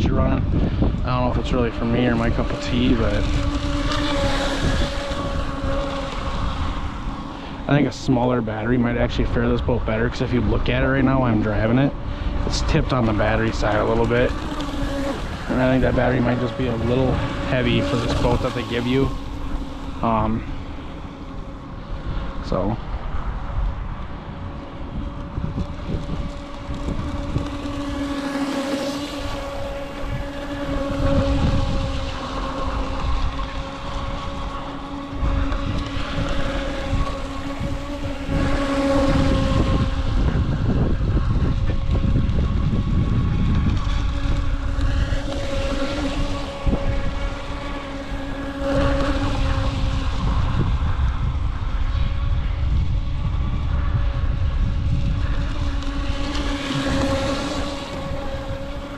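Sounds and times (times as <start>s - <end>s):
boat electric motor whine: 0.0s - 58.9s
wind rumble on microphone: 0.0s - 58.9s.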